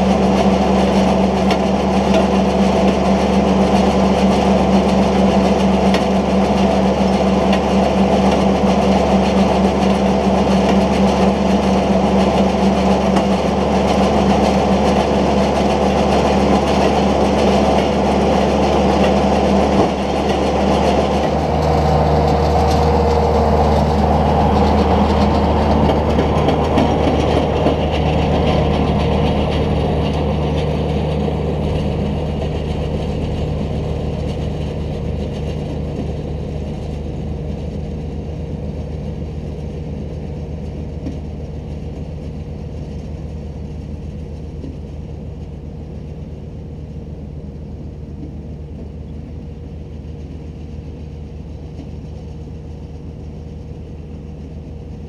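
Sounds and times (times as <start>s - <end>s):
round baler working: 0.0s - 55.0s
tractor diesel engine running: 0.0s - 55.0s.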